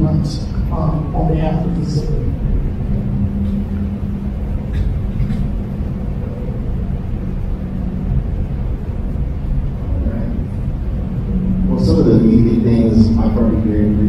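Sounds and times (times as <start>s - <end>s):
low room noise rumble: 0.0s - 14.0s.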